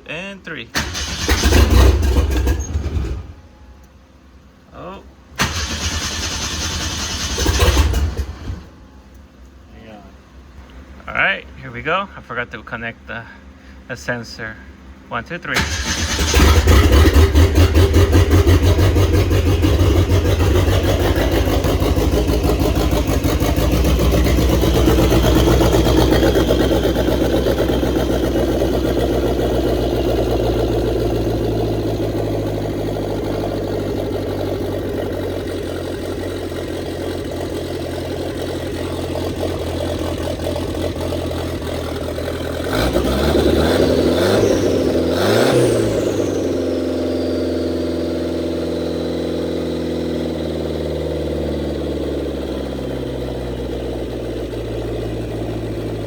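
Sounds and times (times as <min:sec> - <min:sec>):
car engine idling and revving: 0:00.7 - 0:11.8, 0:14.7 - 0:56.0.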